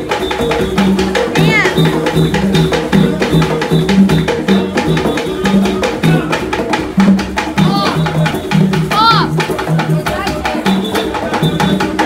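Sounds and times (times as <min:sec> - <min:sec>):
fast drum rhythm: 0:00.0 - 0:12.0.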